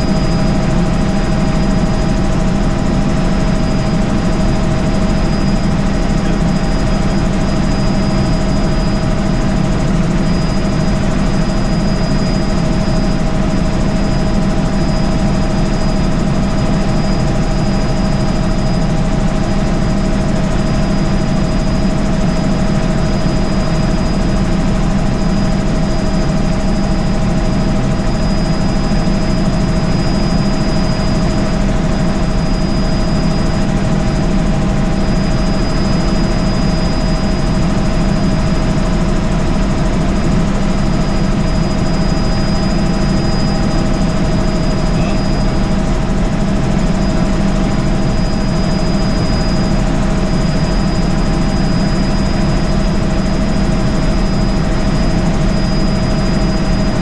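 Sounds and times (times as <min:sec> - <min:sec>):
helicopter rotor and engine noise: 0:00.0 - 0:57.0
high whine: 0:00.0 - 0:57.0.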